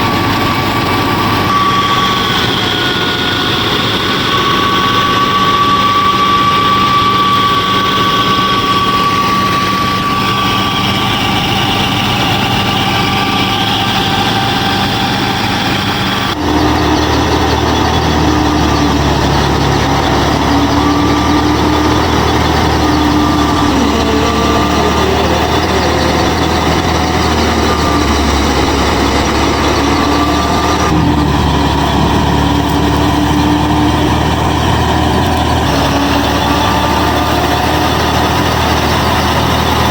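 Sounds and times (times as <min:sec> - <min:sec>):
small motors whining: 0:00.0 - 0:39.9.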